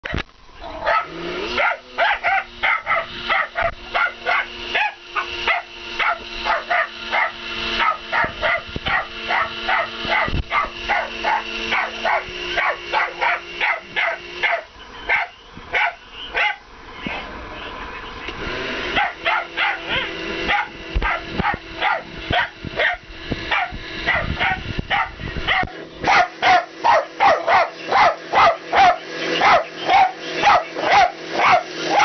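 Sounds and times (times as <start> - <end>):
small dog barking rapidly: 0.0 - 16.6, 19.0 - 32.0
blender motor humming: 0.0 - 32.0.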